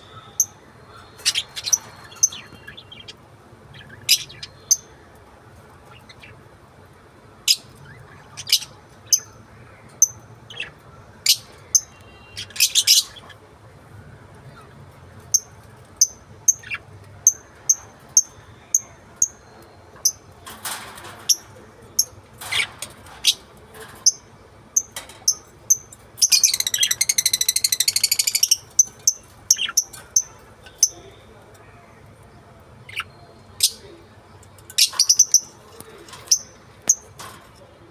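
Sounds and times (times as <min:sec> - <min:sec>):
lovebirds chirping: 0:00.0 - 0:05.2, 0:07.4 - 0:37.9.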